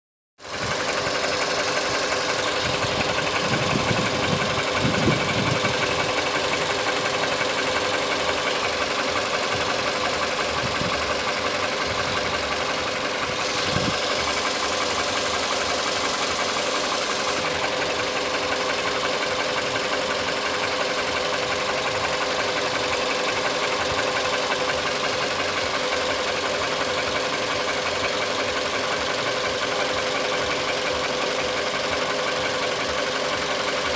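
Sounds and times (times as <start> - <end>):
engine idling with a knock: 0.5 - 33.9.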